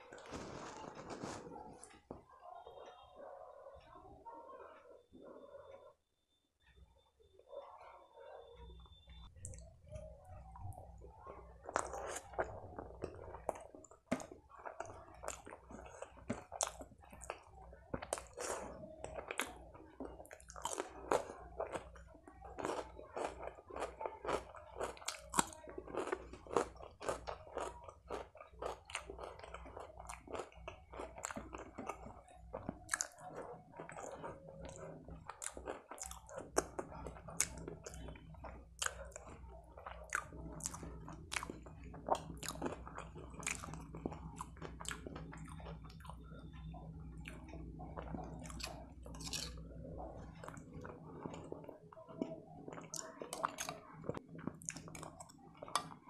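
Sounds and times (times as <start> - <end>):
food crunching: 0.0 - 2.1, 9.1 - 56.0
chewing and biting: 0.1 - 2.0, 11.5 - 56.0.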